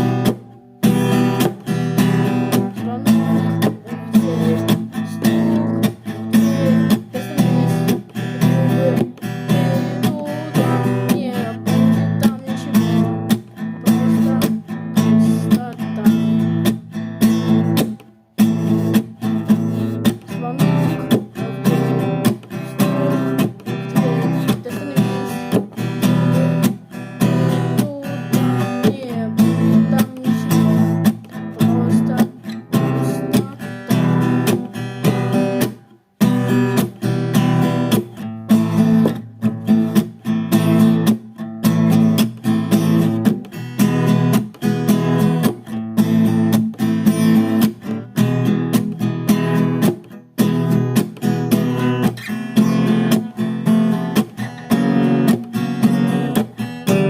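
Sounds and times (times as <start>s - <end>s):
strummed acoustic guitar: 0.0s - 57.0s.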